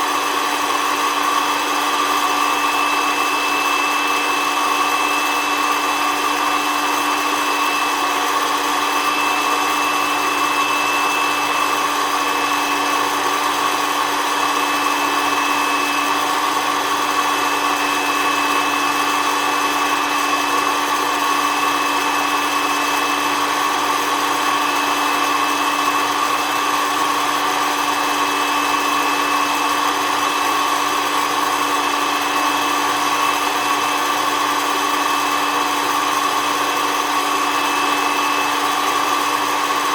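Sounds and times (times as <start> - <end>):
coffee roaster fan whine: 0.0 - 39.9.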